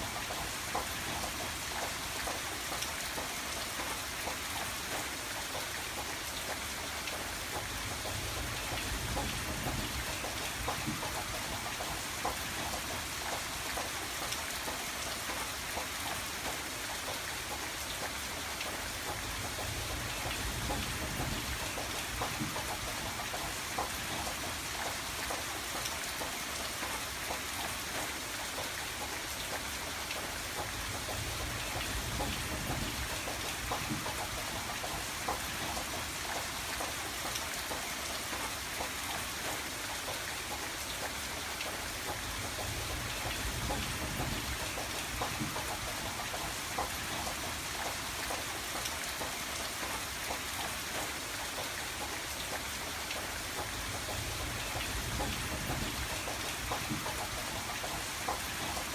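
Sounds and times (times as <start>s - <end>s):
rain on a window: 0.0s - 58.9s.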